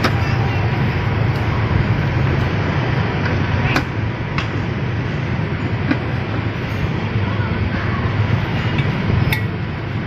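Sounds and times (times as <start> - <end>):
low street hum: 0.0 - 10.0.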